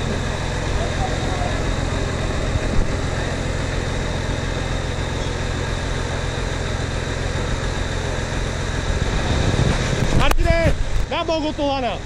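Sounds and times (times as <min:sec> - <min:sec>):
engine running at low revs: 0:00.0 - 0:12.0.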